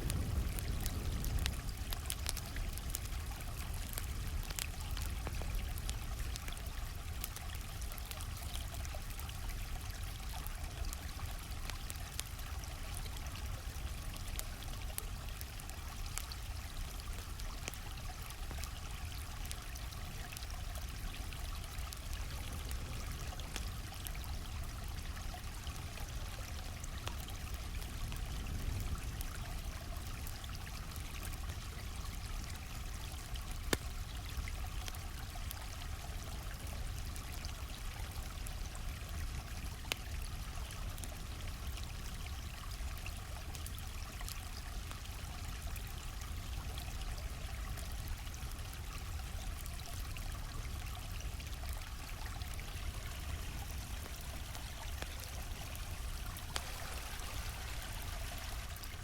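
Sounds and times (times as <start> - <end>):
campfire crackling: 0.0 - 59.0
stream rushing and trickling: 0.0 - 59.0.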